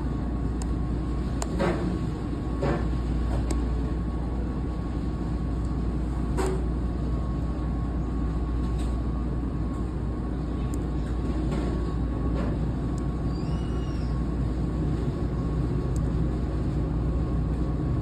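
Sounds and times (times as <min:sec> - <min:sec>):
machinery hum and whir: 0:00.0 - 0:18.0.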